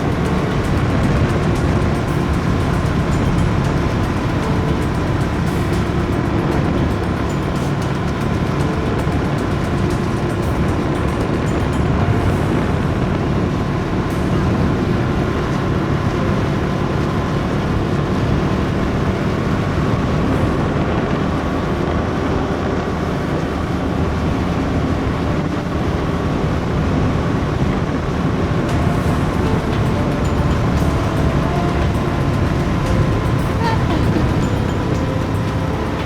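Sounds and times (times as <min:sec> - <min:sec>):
motorcycle engine drone: 0:00.0 - 0:36.0
wind and road noise: 0:00.0 - 0:36.0.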